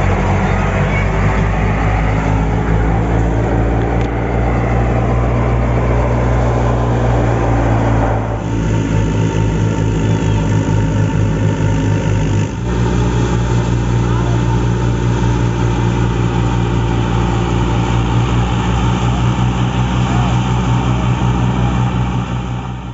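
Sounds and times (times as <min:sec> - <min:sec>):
thresher drum whirring: 0:00.0 - 0:22.9
tractor diesel engine running: 0:00.0 - 0:22.9.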